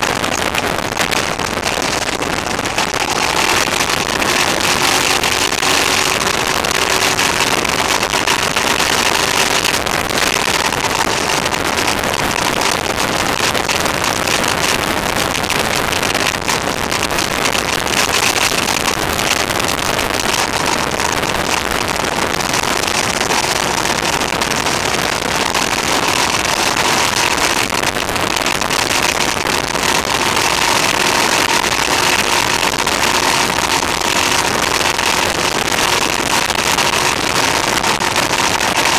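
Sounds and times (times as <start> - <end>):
motorcycle engine drone: 0.0 - 38.9
wind rush over microphone: 0.0 - 38.9.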